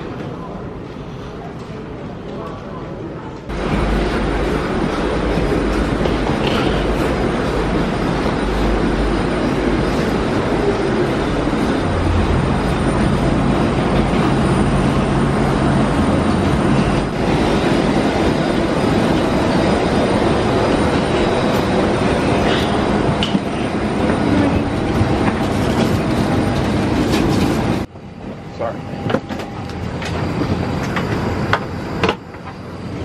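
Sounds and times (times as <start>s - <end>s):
airport ramp rumble: 0.0s - 33.0s.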